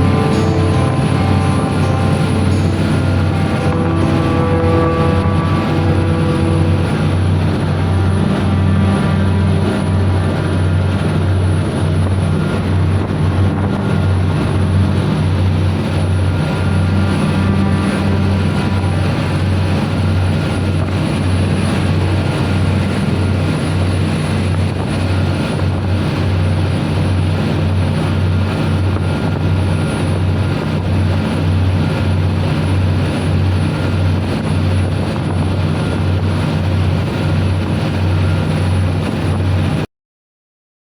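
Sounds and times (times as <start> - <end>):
rushing noise: 0.0 - 39.7
boat diesel engines droning: 0.0 - 39.8.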